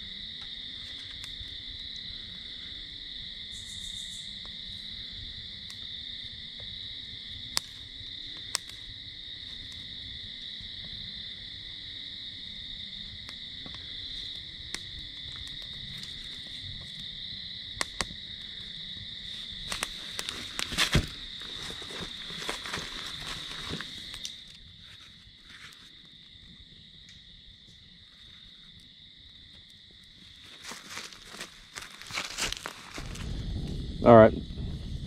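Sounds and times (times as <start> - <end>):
insect chorus drone: 0.0 - 35.0
kindling crackling in fire: 0.0 - 35.0.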